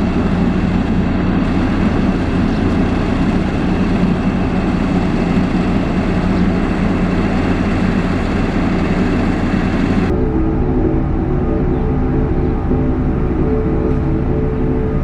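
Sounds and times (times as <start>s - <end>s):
droning music: 0.0s - 15.0s
heavy machine engine running: 0.0s - 15.0s.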